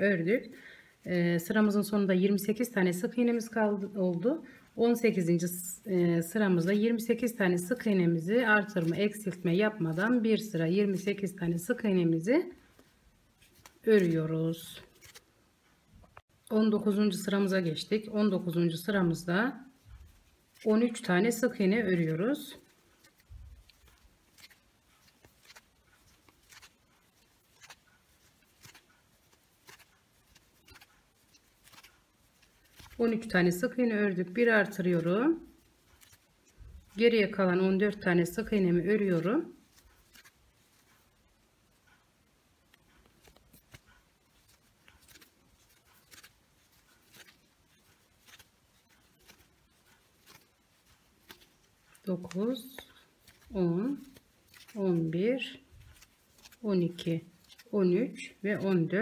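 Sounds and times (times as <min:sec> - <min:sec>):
crochet hook scratching yarn: 0:01.5 - 0:59.0.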